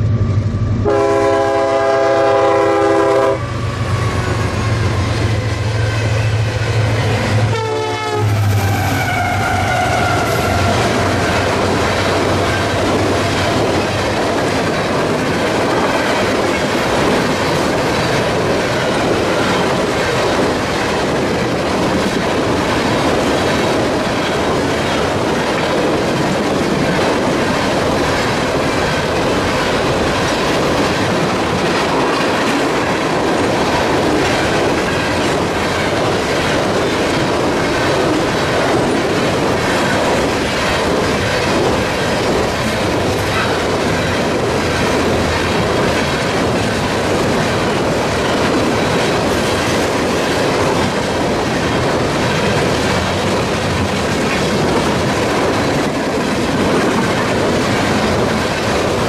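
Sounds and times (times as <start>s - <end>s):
train wheels rumbling on rail: 0.0s - 59.0s
wheels clacking over rail joints: 9.9s - 59.0s.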